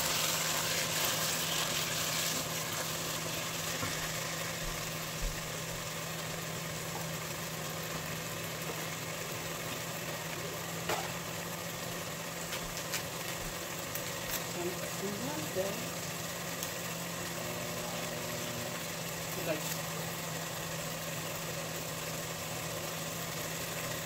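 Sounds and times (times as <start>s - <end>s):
food bubbling and sizzling: 0.0s - 24.0s.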